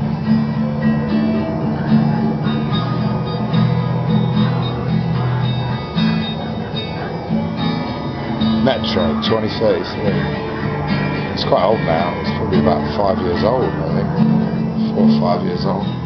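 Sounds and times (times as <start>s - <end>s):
slow acoustic guitar game music: 0.0s - 16.0s.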